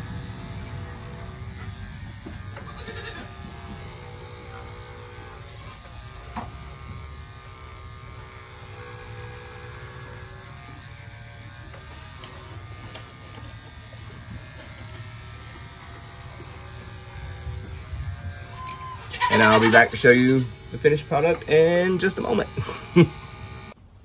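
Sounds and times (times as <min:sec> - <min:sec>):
electric clippers humming: 0:00.0 - 0:24.0.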